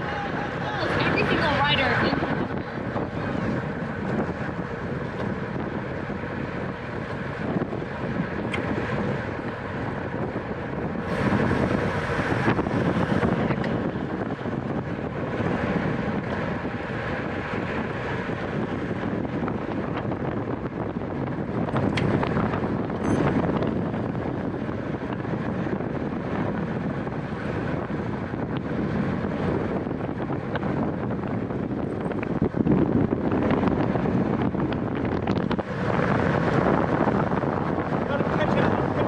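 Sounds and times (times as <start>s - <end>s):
road and bicycle noise: 0.0s - 39.0s
wind rushing over microphone: 0.0s - 39.0s.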